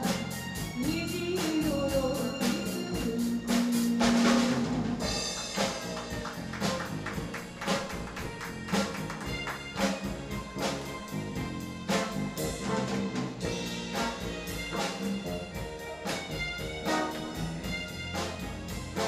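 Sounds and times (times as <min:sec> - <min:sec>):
live rock band playing: 0:00.0 - 0:19.0
steady drum beat: 0:00.0 - 0:19.0.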